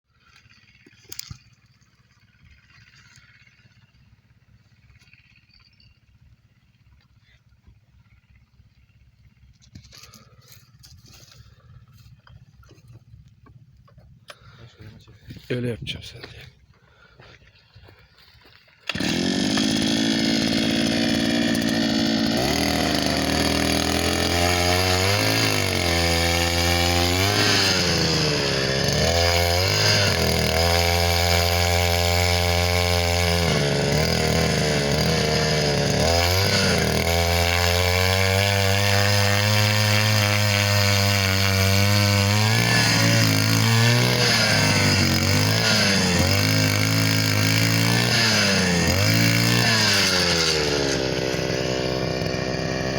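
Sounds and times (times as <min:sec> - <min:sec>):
earth auger engine running: 0:00.1 - 0:52.9.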